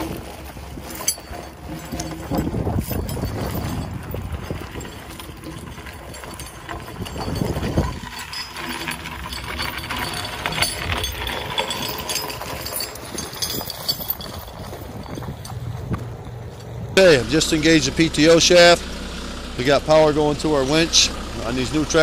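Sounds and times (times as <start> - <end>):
footsteps crunching on gravel: 0.0 - 17.7
tractor engine idling: 0.0 - 22.0.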